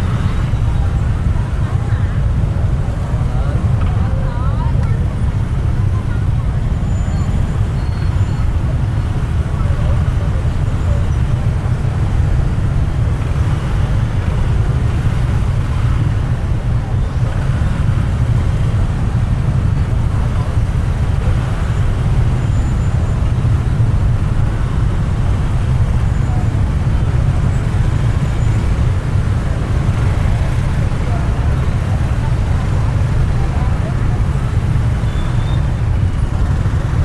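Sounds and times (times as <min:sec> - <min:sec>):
traffic engines rumbling: 0:00.0 - 0:37.0.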